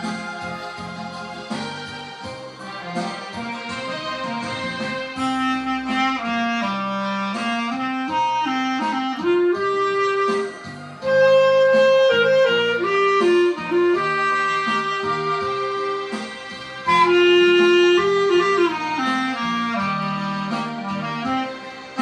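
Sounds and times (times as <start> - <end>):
clarinet melody: 0.0 - 22.0
lower accompaniment line: 0.0 - 22.0.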